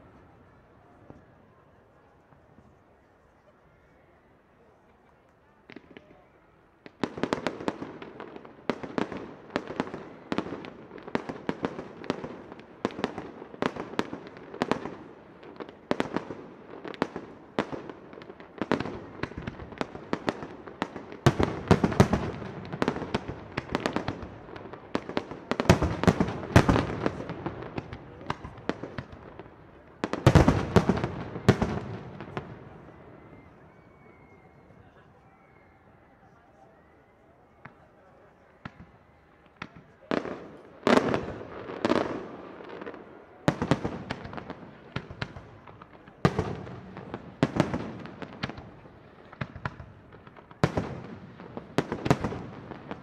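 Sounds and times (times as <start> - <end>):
fireworks bangs: 5.6 - 35.6, 37.5 - 53.0.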